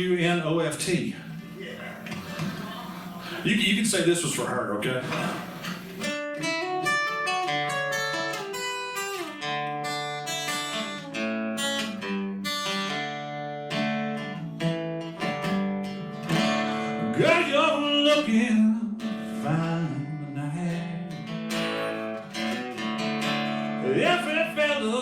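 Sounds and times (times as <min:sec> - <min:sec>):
acoustic guitar melody: 0:00.8 - 0:03.8, 0:05.0 - 0:25.0.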